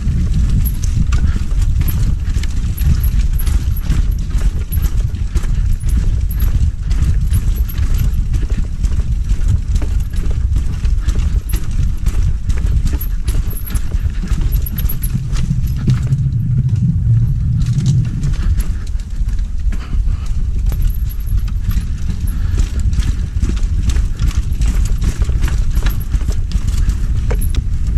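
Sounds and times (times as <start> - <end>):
low hum: 0.0 - 27.9
mountain bike rattling on dirt trail: 0.0 - 27.9
wind rumble on microphone: 0.0 - 27.9.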